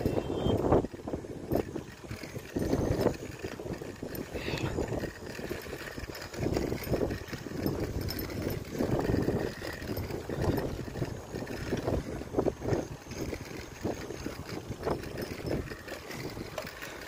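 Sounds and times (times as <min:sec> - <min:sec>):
bicycle rolling on paved path: 0:00.0 - 0:17.0
wind rushing over microphone: 0:00.0 - 0:17.0.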